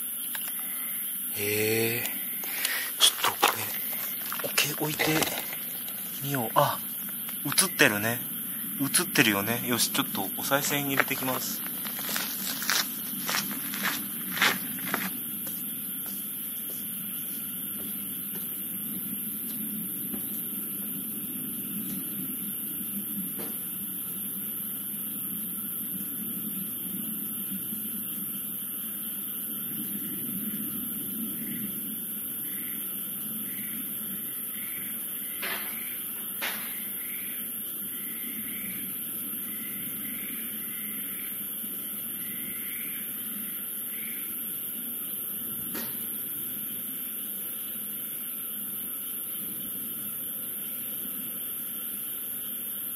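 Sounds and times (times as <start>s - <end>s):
constant high hiss: 0.0s - 52.9s
soft insect chirp: 0.0s - 52.9s.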